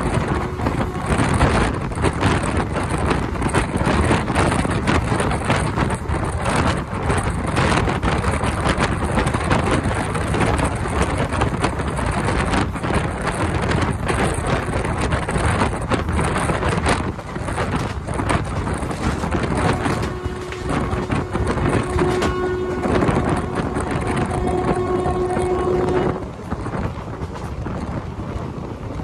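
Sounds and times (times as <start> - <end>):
train wheel and track noise: 0.0 - 29.0
wheels clicking over rails: 0.0 - 29.0
wind on microphone: 0.0 - 29.0.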